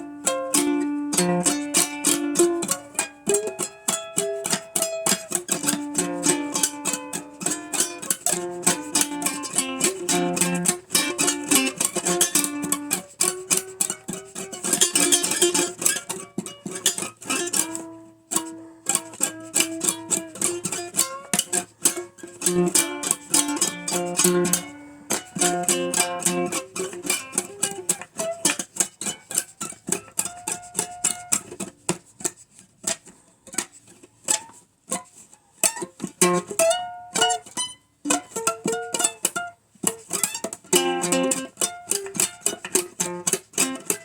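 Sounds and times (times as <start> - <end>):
plucked acoustic string blues tune: 0.0 - 44.0.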